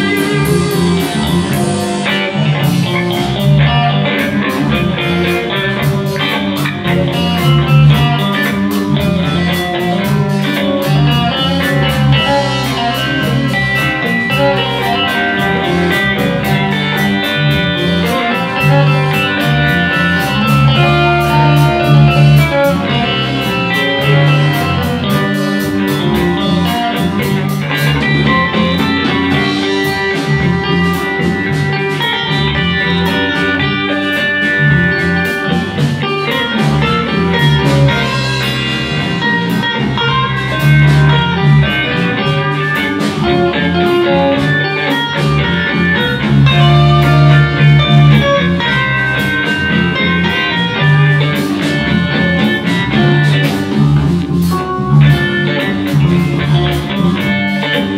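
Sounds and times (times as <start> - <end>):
bass: 0.0 - 57.9
drum kit: 0.0 - 57.9
electric guitar lead: 0.0 - 57.9.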